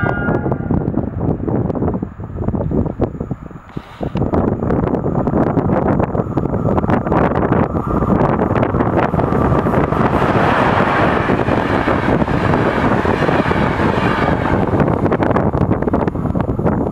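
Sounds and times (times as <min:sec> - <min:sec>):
train wheels rolling on rail: 0:00.0 - 0:16.9
wind buffeting microphone: 0:00.0 - 0:16.9.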